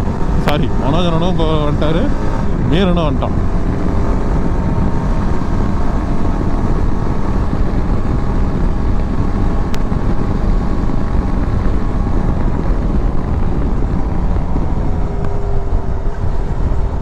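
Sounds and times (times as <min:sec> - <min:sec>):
motorcycle engine and road noise: 0:00.0 - 0:17.0
wind buffeting microphone: 0:00.0 - 0:17.0.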